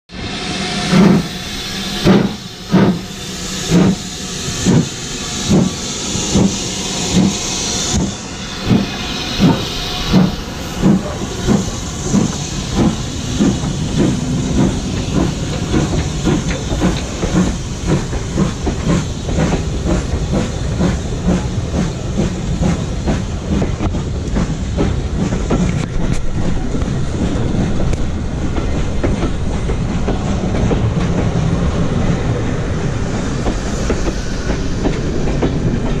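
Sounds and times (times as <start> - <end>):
steam hissing: 0.1 - 36.0
steam locomotive chuffing: 0.1 - 36.0
train wheels clattering on rail joints: 0.9 - 1.3, 2.0 - 3.1, 3.7 - 31.7, 33.4 - 36.0.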